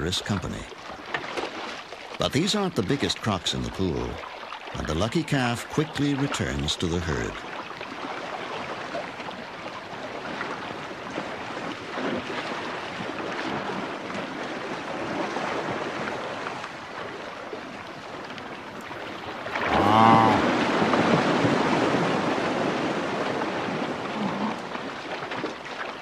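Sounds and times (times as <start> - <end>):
water splashing: 0.0 - 26.0.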